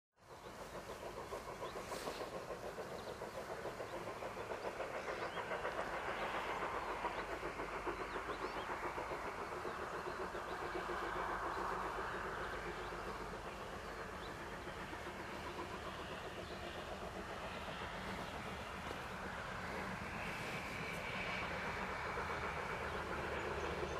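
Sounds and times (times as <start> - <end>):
steam locomotive exhaust beats: 0.2 - 23.9.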